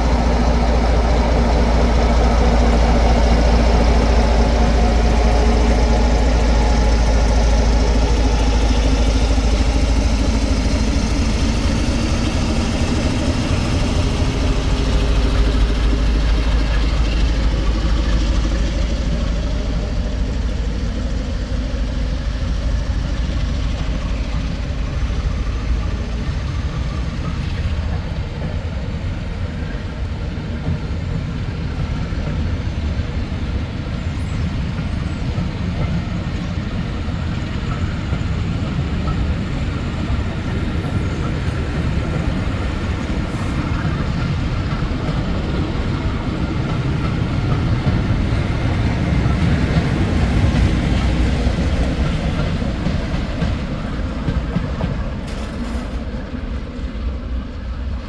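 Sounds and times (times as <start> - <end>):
diesel train engine rumbling: 0.0 - 58.0.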